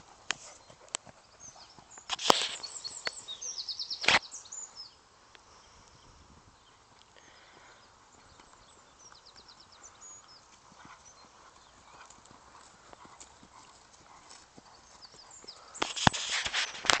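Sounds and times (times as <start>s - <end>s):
horse hooves on grass: 0.0s - 4.7s, 6.7s - 17.0s.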